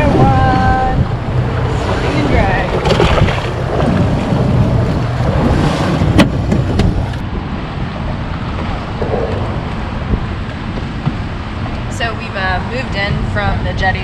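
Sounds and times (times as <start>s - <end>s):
water rushing along boat hull: 0.0s - 14.0s
wind on microphone: 0.0s - 14.0s.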